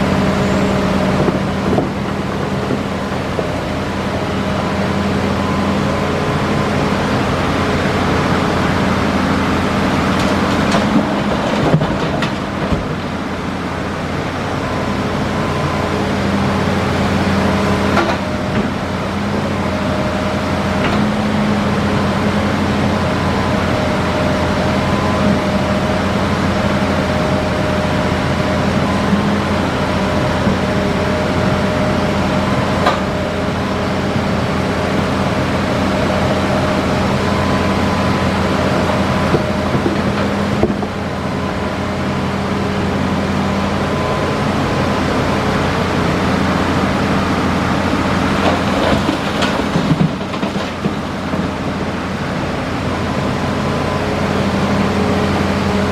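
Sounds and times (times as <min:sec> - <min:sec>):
excavator diesel drone: 0:00.0 - 0:55.9.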